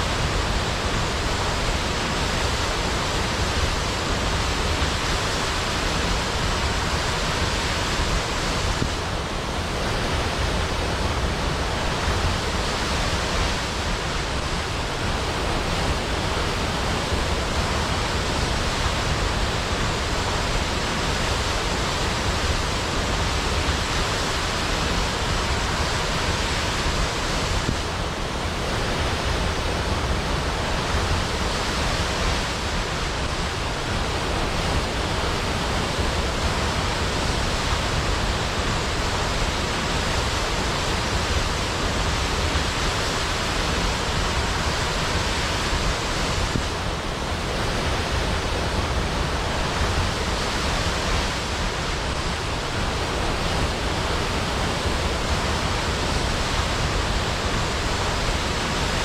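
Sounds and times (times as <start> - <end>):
waterfall crashing into pool: 0.0 - 59.0.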